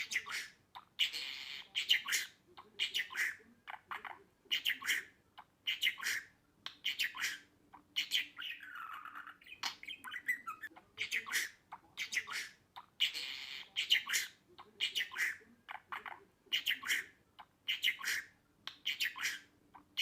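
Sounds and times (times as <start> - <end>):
budgerigar chirping and warbling: 0.0 - 20.0.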